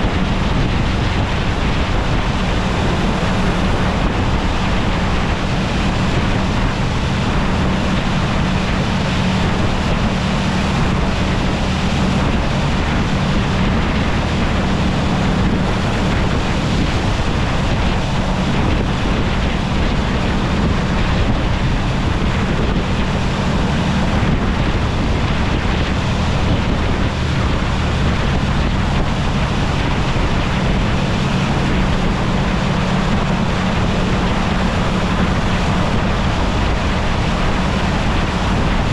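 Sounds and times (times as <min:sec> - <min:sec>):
boat diesel engine running: 0:00.0 - 0:38.9
water rushing past hull: 0:00.0 - 0:38.9
wind buffeting microphone: 0:00.0 - 0:38.9.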